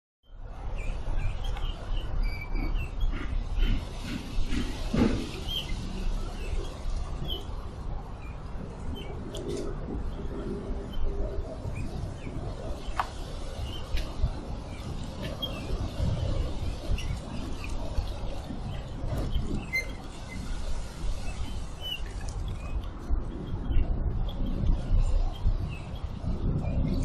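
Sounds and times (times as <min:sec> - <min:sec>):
steady low rumble: 0:00.3 - 0:27.0.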